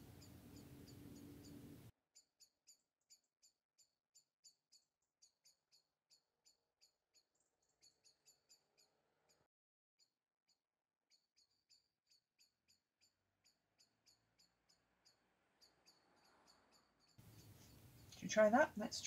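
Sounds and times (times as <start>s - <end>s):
small bird chirping: 0.0s - 9.5s, 11.1s - 19.0s.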